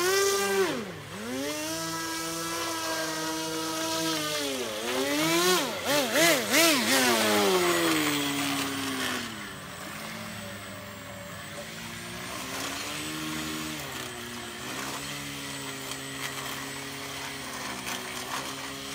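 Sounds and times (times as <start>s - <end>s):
model boat motor revving: 0.0s - 18.9s.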